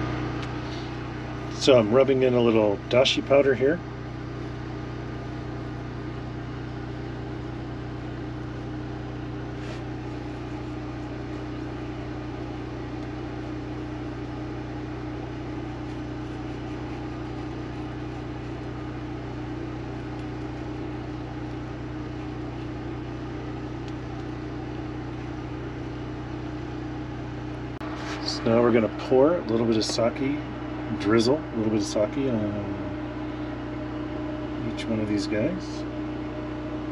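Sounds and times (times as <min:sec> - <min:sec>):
generator engine humming: 0:00.0 - 0:36.9.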